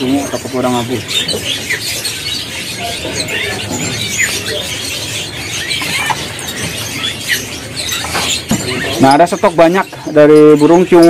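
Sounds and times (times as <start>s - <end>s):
caged birds chirping: 0.0s - 11.0s
low background murmur: 0.0s - 11.0s.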